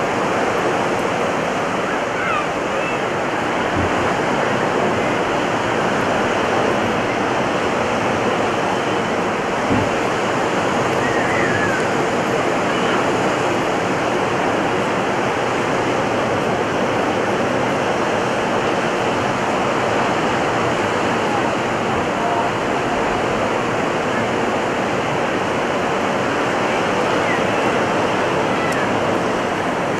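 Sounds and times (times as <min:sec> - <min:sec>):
ocean surf breaking: 0:00.0 - 0:29.9.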